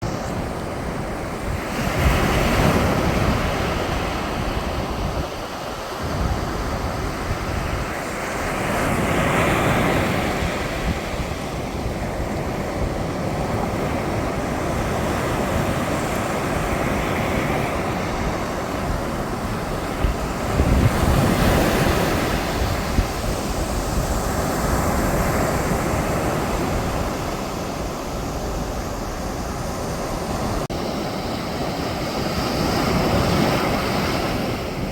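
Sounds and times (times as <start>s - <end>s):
sea waves breaking on beach: 0.0s - 34.9s
wind buffeting microphone: 0.0s - 34.9s.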